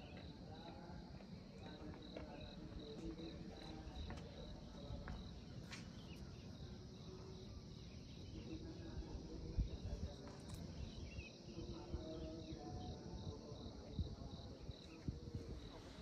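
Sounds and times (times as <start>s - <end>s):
insect chirping: 1.8s - 16.0s.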